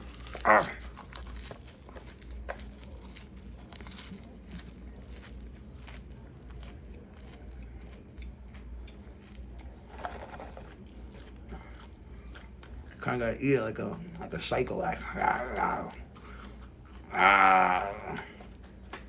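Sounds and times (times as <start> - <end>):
chewing crunchy leaves: 0.0 - 19.0
low steady hum: 0.0 - 19.0.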